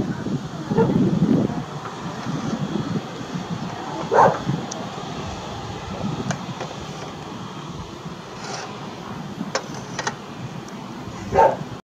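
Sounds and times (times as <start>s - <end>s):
jet engines idling: 0.0s - 11.8s.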